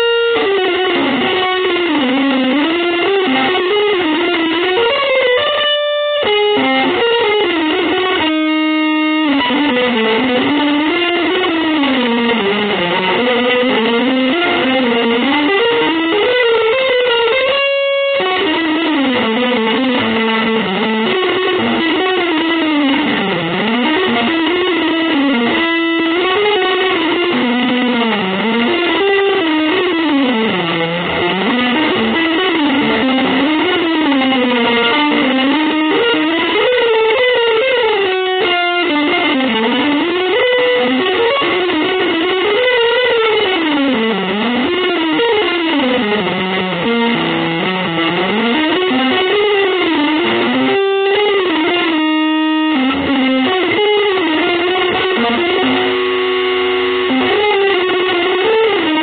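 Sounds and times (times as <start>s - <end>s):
electric guitar solo: 0.0s - 59.0s.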